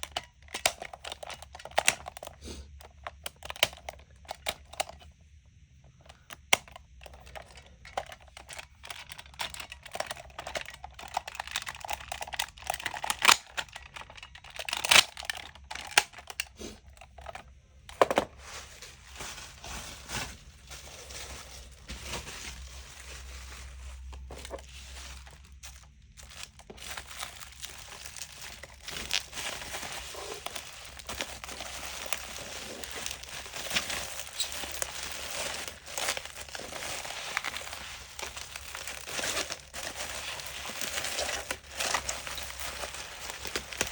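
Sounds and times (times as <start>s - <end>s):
crinkling and rustling: 0.0s - 43.9s.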